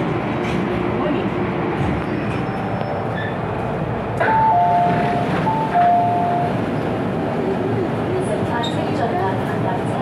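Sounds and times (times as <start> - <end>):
train and platform hum: 0.0 - 10.0.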